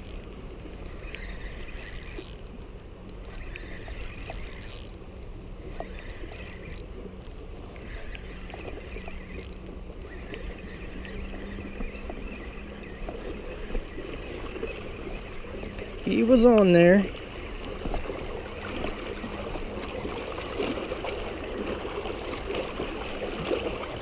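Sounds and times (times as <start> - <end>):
fishing reel gears whirring: 0.0 - 24.0
steady low hum: 0.0 - 24.0.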